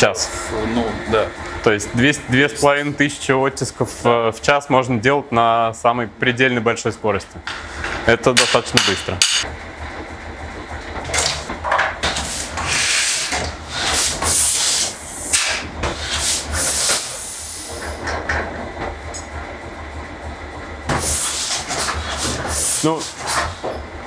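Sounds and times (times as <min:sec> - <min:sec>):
printing press motor hum: 0:00.0 - 0:24.0.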